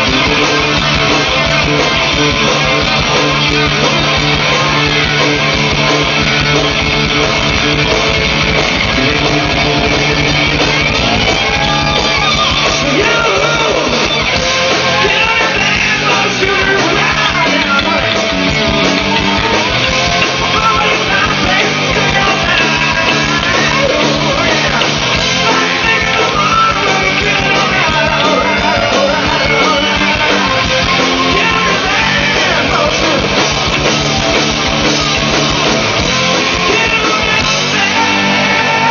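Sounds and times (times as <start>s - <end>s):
bass guitar: 0.0s - 38.9s
drums: 0.0s - 38.9s
electric guitar lead with bends: 0.0s - 38.9s.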